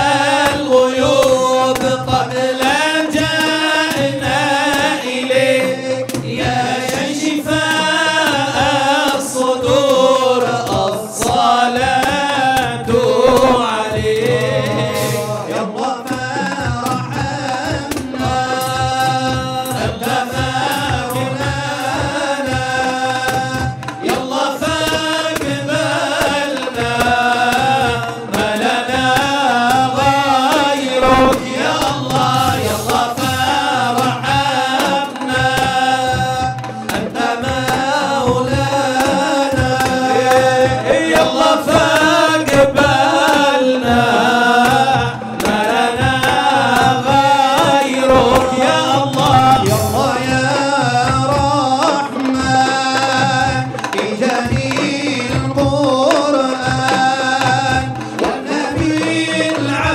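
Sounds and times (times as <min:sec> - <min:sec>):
hand-struck frame drums: 0:00.0 - 0:59.9
men singing: 0:00.0 - 0:59.9.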